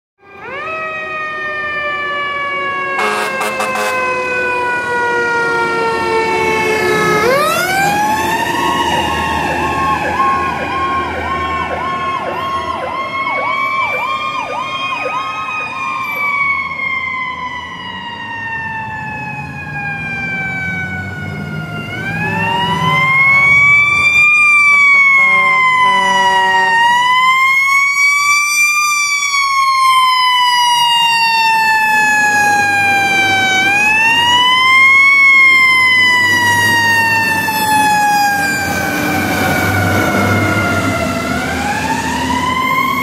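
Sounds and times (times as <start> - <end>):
fast yelping siren: 0.2 - 43.0
wailing siren: 0.2 - 43.0.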